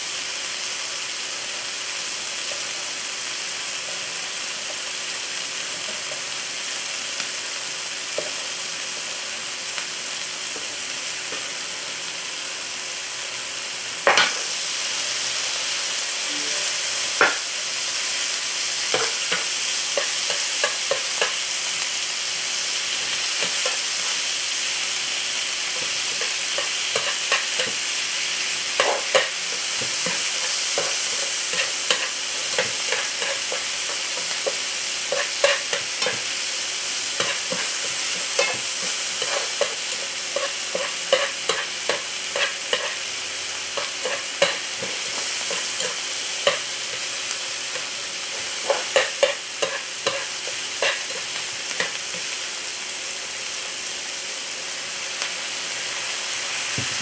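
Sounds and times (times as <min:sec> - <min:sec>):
food frying sizzle: 0:00.0 - 0:57.0.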